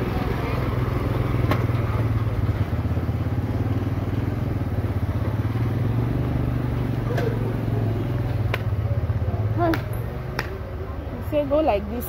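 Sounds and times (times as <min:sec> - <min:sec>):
motor tricycle engine running: 0:00.0 - 0:12.0.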